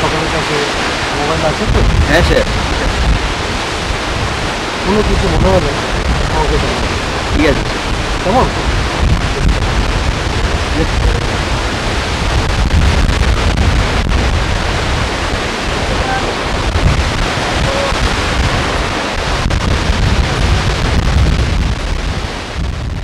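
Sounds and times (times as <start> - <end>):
waterfall rushing: 0.0 - 23.0
wind on microphone: 0.0 - 23.0.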